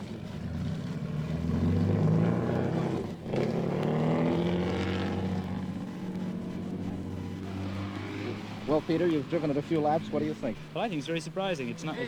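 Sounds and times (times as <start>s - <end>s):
racing car engine accelerating: 0.0s - 10.8s.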